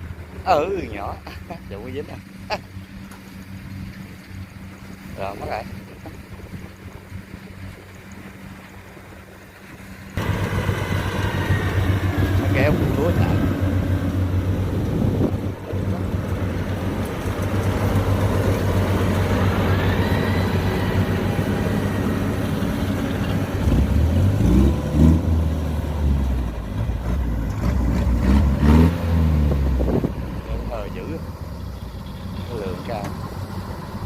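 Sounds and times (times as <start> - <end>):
diesel engine running: 0.0 - 34.0
low heavy engine drone: 0.0 - 34.0.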